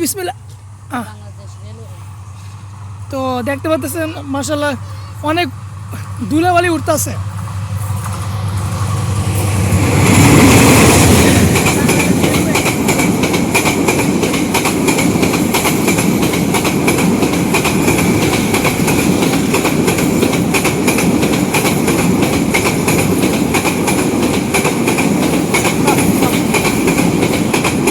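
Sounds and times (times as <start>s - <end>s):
train running noise: 0.0s - 27.9s
wheels clicking on track: 0.0s - 27.9s.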